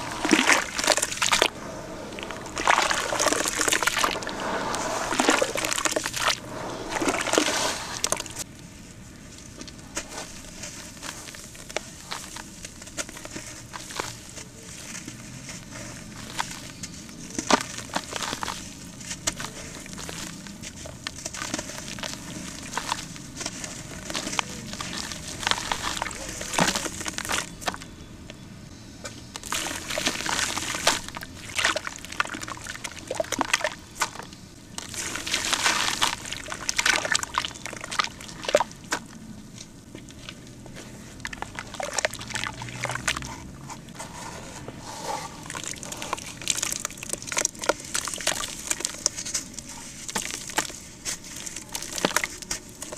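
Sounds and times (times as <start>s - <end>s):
water sloshing and squelching: 0.0s - 8.5s, 9.2s - 27.8s, 29.3s - 52.9s
gritty crackles of crumbling cement: 0.0s - 28.4s, 29.0s - 52.9s.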